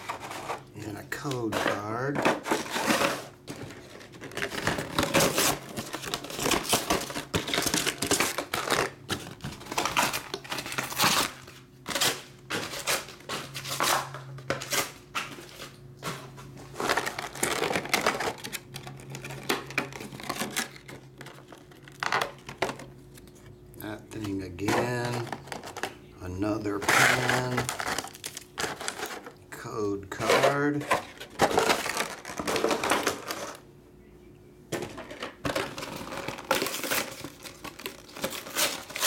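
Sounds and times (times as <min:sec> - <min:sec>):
packaging rustling and crinkling: 0:01.5 - 0:23.5, 0:26.8 - 0:29.4, 0:30.3 - 0:33.6, 0:35.4 - 0:39.0.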